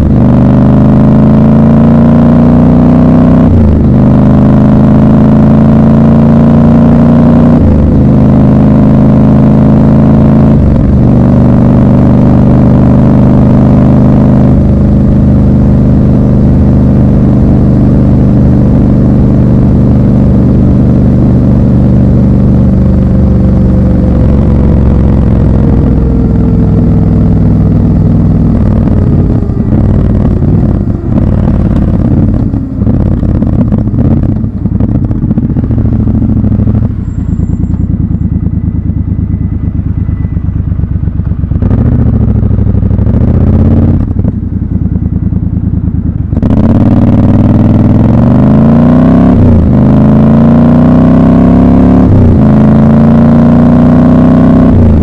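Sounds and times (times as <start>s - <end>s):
motorcycle engine: 0.0s - 55.0s.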